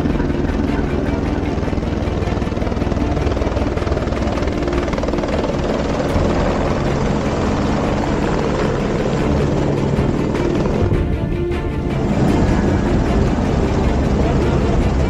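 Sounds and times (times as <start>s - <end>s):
helicopter turbine and rotor drone: 0.0s - 15.0s.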